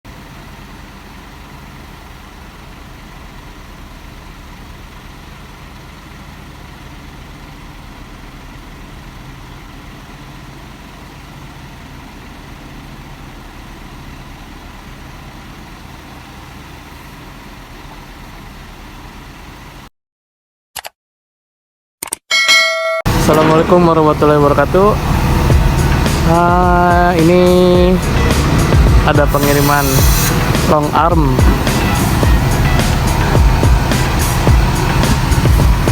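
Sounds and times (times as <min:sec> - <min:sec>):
heavy diesel engine idling: 0:00.1 - 0:19.9, 0:23.1 - 0:35.9.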